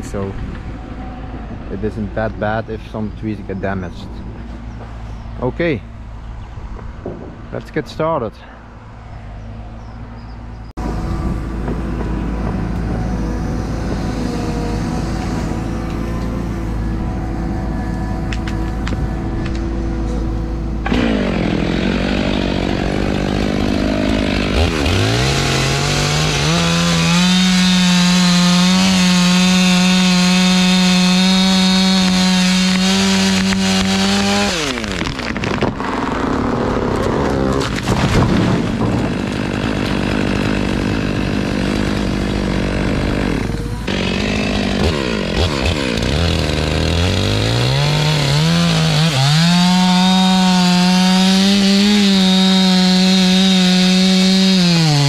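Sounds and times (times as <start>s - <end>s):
chainsaw cutting wood: 10.8s - 55.0s.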